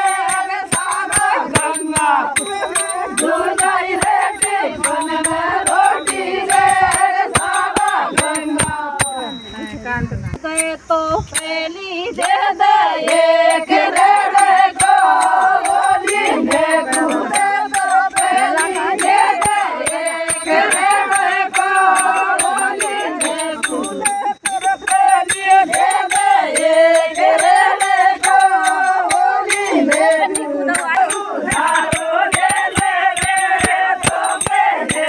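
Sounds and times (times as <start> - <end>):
fast clicking percussion beat: 0.0 - 9.7, 10.4 - 35.0
person singing folk melody: 0.0 - 35.0.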